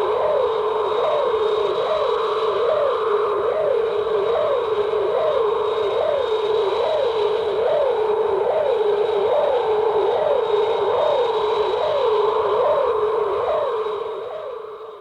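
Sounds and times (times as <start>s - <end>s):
steady high whine: 0.0s - 15.0s.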